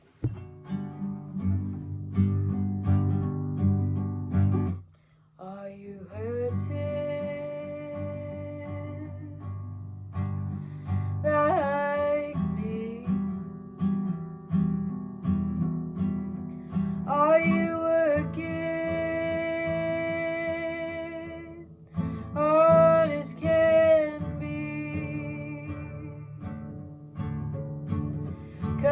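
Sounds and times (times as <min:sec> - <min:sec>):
acoustic guitar strumming: 0:00.0 - 0:04.9, 0:06.5 - 0:28.9.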